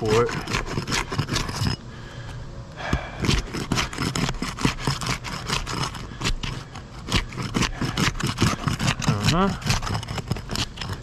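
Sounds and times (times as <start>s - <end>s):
tool scraping under roof shingles: 0.0s - 11.0s.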